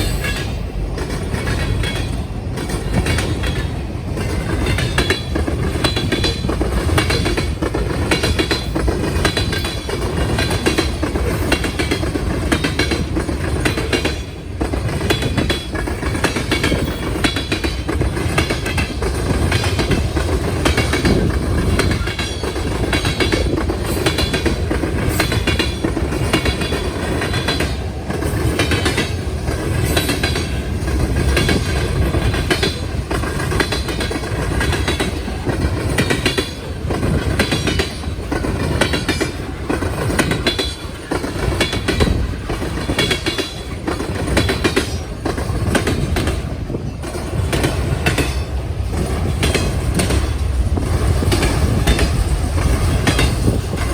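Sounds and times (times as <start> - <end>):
train rumble: 0.0 - 53.9
train wheels clattering over crossing: 0.0 - 53.9.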